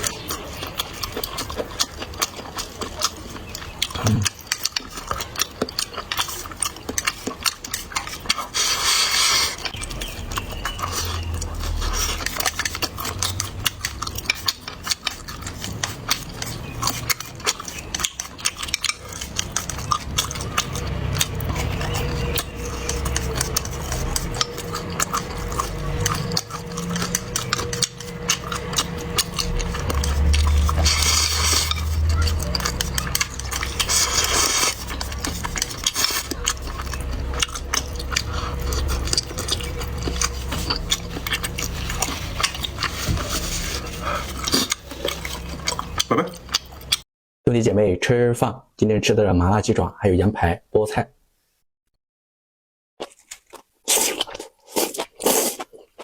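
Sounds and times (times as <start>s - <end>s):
person chewing: 0.0s - 47.0s, 53.0s - 56.0s.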